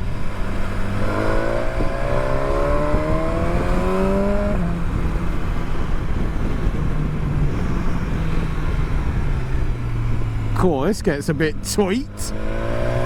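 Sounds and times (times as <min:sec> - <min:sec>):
motorcycle engine accelerating: 0:00.0 - 0:13.0
wind rush: 0:00.0 - 0:13.0.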